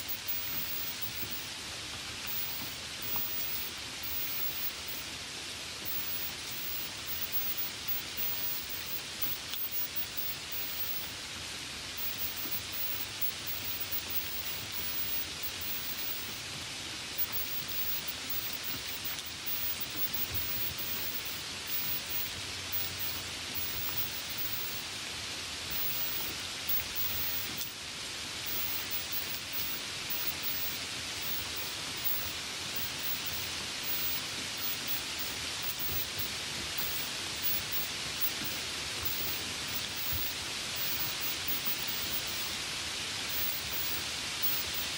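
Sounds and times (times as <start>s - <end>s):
light rain falling: 0.0s - 44.9s.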